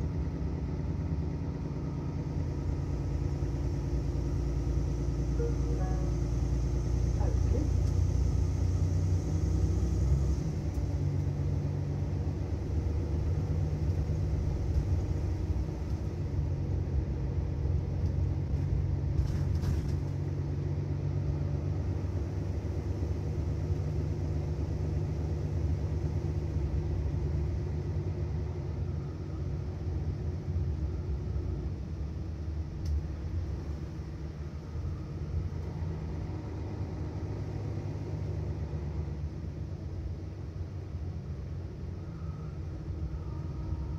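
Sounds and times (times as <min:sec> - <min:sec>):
bus engine rumbling: 0:00.0 - 0:43.9.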